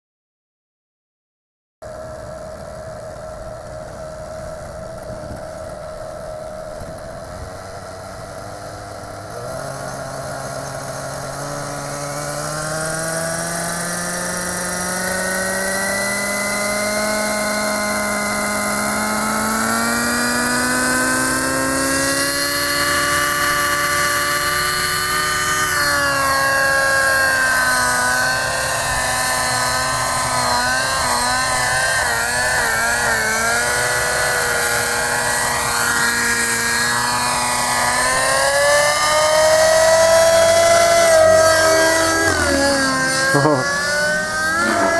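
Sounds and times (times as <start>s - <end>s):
model helicopter rotor whine: 1.8s - 44.9s.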